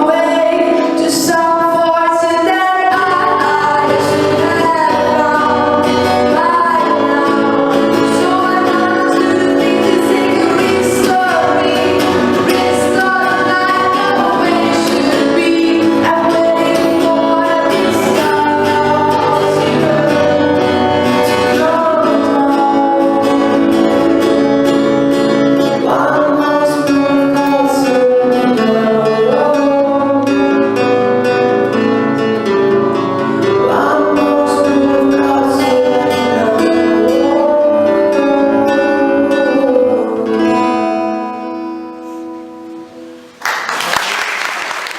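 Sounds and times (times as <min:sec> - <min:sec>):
person singing long notes: 0:00.0 - 0:43.3
guitar chords: 0:00.0 - 0:44.9.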